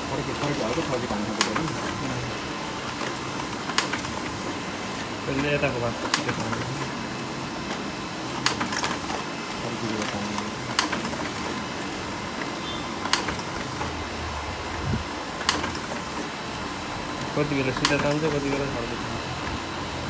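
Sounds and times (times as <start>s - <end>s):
laser printer running: 0.0s - 20.0s
printer paper feed click: 0.0s - 20.0s.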